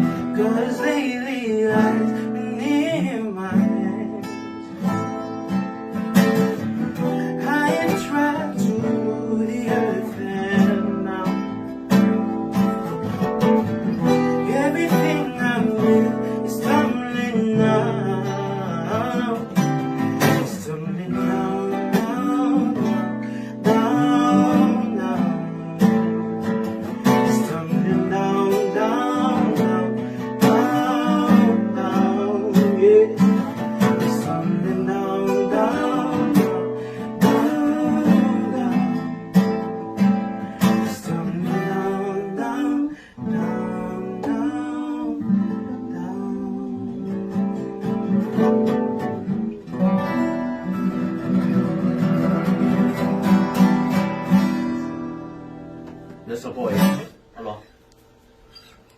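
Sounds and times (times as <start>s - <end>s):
strummed acoustic guitar: 0.0s - 58.9s.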